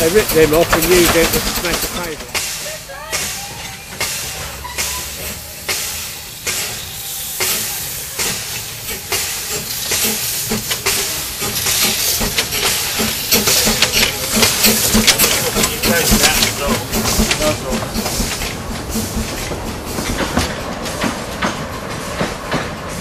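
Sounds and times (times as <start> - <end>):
steam hissing: 0.0 - 23.0
steam locomotive exhaust chuffs: 0.0 - 23.0.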